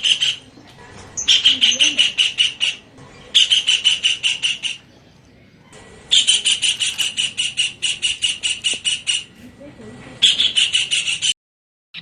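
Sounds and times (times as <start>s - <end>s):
kingfisher calling: 0.0s - 11.3s.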